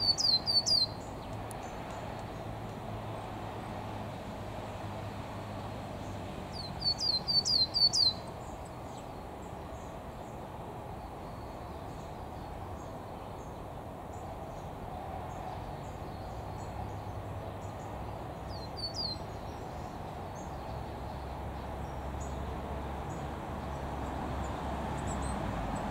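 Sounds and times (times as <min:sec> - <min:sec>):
steady background noise: 0:00.0 - 0:25.9.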